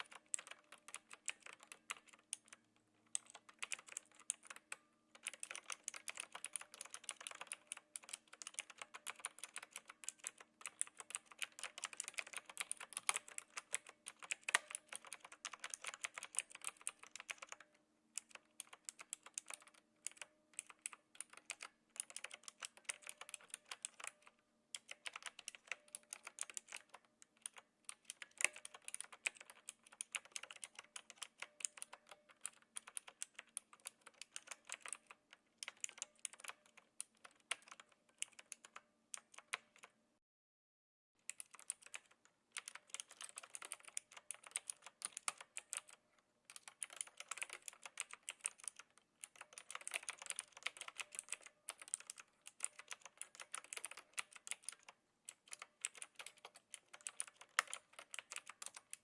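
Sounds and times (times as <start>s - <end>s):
mechanical keyboard typing: 0.0s - 40.0s, 41.2s - 59.0s.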